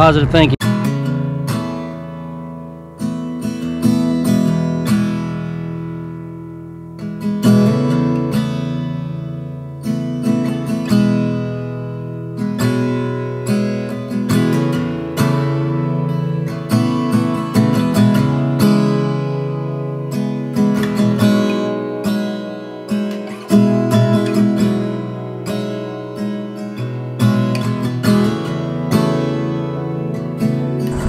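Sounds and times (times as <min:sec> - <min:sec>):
acoustic guitar music: 0:00.0 - 0:31.0.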